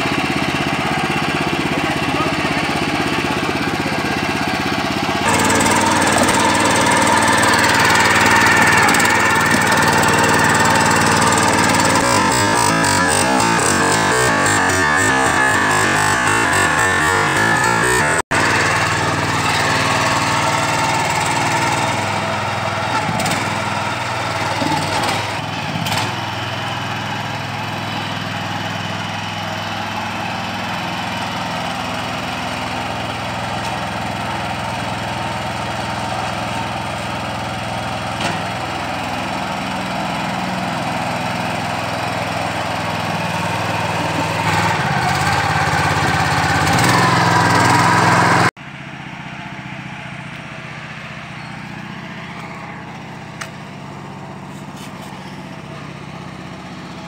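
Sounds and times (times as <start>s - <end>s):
power tiller engine running: 0.0s - 57.0s
tiller blades churning soil: 0.0s - 57.0s.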